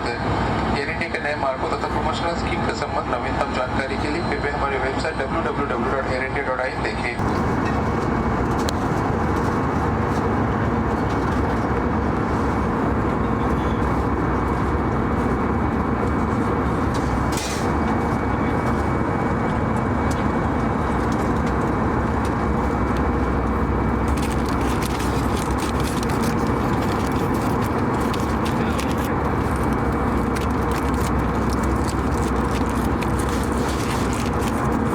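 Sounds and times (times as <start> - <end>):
faint steady hums: 0.0 - 34.9
jet engine and airflow drone: 0.0 - 34.9.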